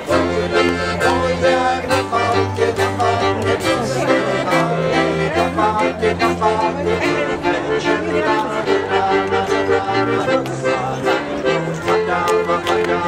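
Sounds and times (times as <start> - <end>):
accordion playing folk tune: 0.0 - 13.0
bowed double bass: 0.0 - 13.0.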